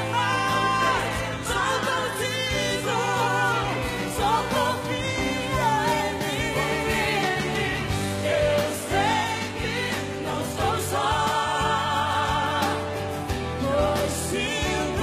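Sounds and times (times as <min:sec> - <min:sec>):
band accompaniment: 0:00.0 - 0:15.0
man and woman singing duet: 0:00.0 - 0:15.0.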